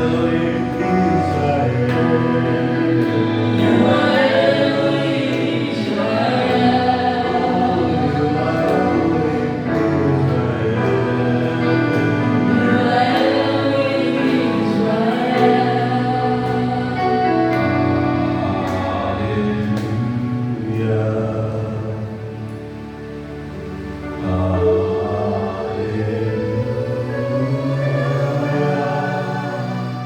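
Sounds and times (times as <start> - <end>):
choir singing gospel music: 0.0 - 30.0.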